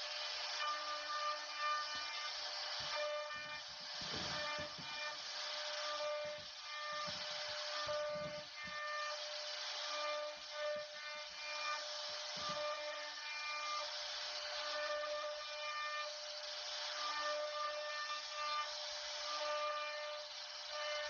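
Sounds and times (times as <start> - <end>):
router cutting wood: 0.0 - 21.0.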